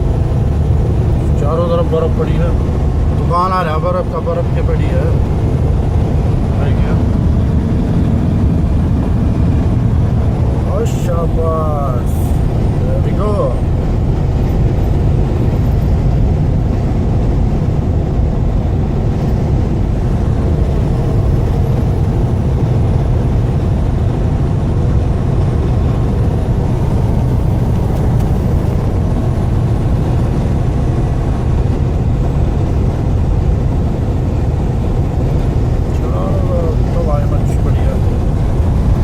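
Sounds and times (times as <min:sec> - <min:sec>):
vehicle engine and road rumble: 0:00.0 - 0:39.0.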